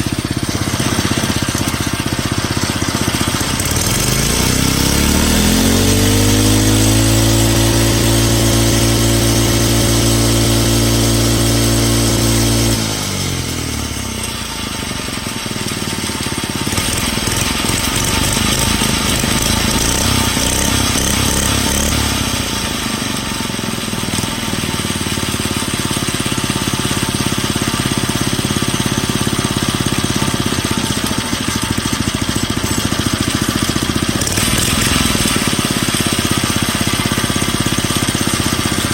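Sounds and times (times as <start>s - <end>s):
pocket bike engine revving: 0.0s - 38.9s.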